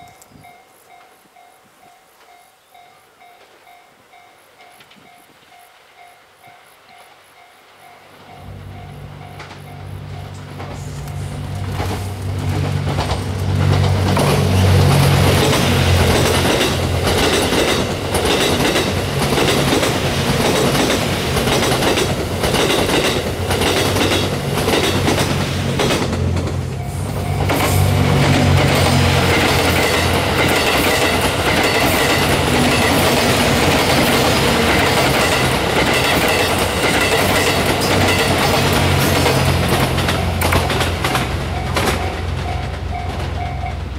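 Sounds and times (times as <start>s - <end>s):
train running noise: 0.0s - 43.9s
diesel train engine drone: 8.2s - 43.9s
wheels clicking over rail joints: 8.2s - 43.9s.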